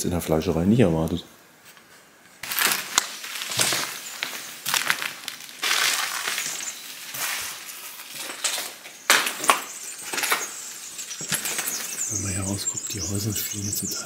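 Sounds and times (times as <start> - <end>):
footsteps crunching over debris: 2.4 - 13.9.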